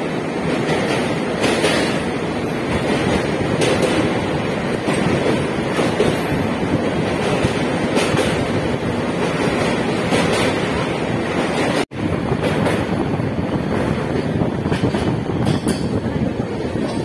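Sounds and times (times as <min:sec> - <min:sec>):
moving train rushing: 0:00.0 - 0:17.0
wind buffeting microphone: 0:00.0 - 0:17.0.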